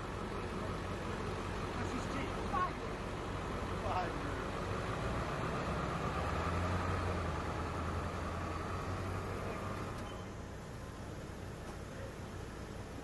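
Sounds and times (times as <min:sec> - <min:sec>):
car engine low hum: 0:00.0 - 0:13.0.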